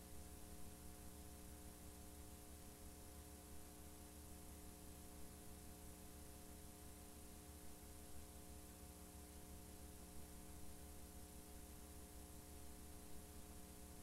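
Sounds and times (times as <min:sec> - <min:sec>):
faint videotape hiss: 0:00.0 - 0:14.0.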